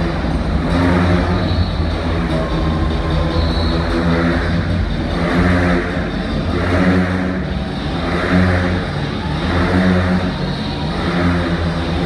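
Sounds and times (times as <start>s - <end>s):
motorcycles revving: 0.0s - 12.0s.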